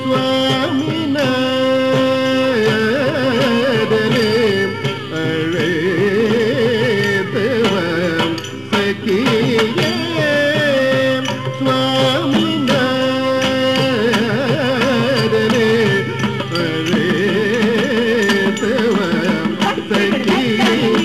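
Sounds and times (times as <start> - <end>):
person singing ornamented notes: 0.0 - 21.0
sharp percussion strokes: 0.0 - 21.0.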